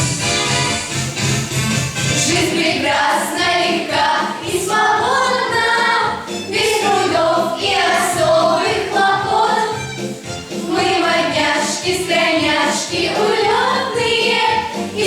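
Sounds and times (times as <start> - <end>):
several voices singing together: 2.2 - 9.9, 10.5 - 15.0.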